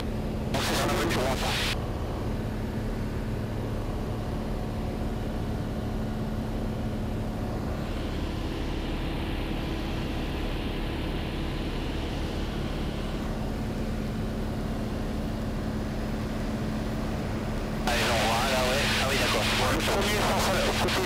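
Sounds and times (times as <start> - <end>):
aircraft engine droning: 0.0 - 21.0.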